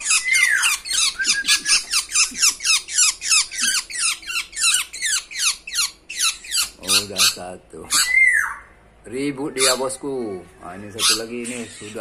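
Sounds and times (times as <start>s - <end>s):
caged birds chirping rapidly: 0.0s - 12.0s.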